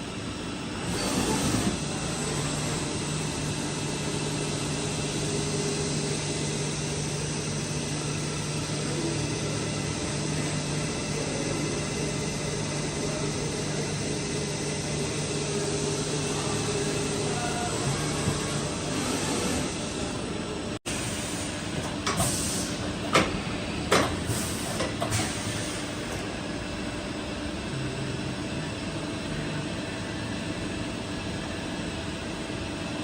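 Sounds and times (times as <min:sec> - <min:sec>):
machining centre running: 0:00.0 - 0:33.0.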